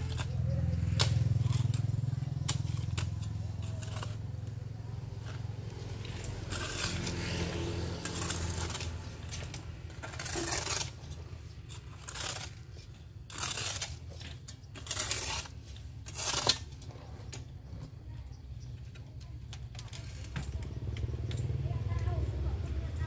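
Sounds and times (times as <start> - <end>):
shovel scraping soil on concrete: 0.0 - 21.0.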